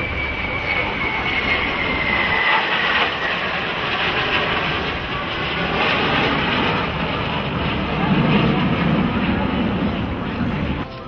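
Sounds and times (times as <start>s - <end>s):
jet engines flying past: 0.0s - 11.0s.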